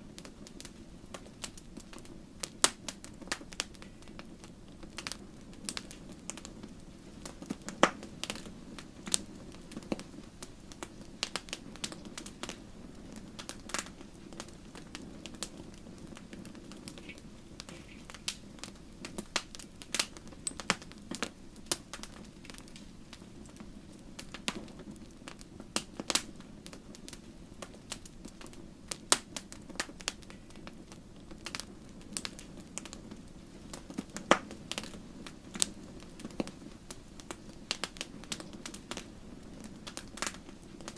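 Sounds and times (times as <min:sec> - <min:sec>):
logs crackling and popping: 0:00.0 - 0:40.9
low rumble of flames: 0:00.0 - 0:40.9.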